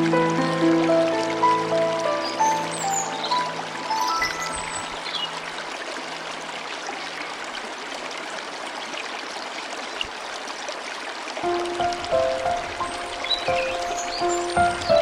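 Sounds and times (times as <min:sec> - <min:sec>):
stream rushing and trickling: 0:00.0 - 0:15.0.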